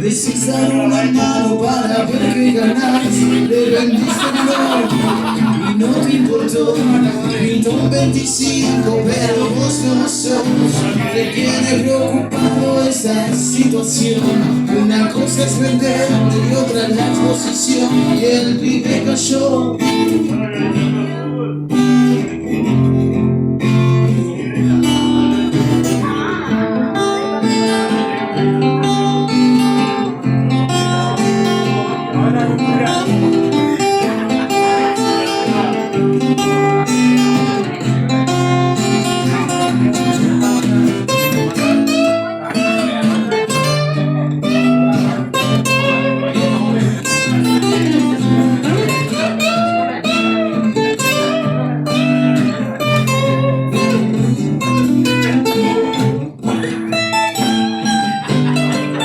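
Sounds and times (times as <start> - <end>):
blues guitar with band: 0.0 - 59.0.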